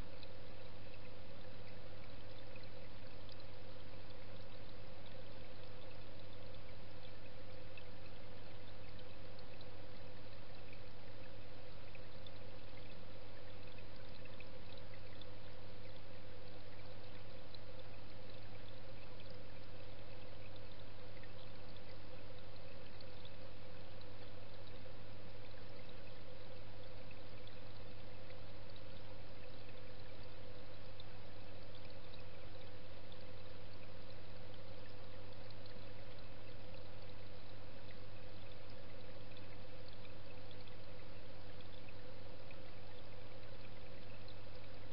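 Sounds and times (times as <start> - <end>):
low pump hum: 0.0 - 44.9.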